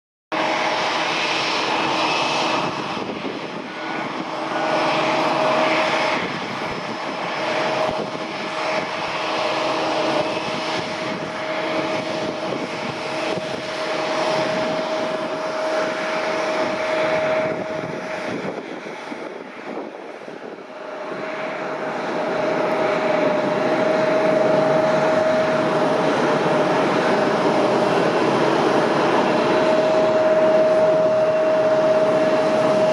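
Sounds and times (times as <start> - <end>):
jet engines whining: 0.3 - 32.9.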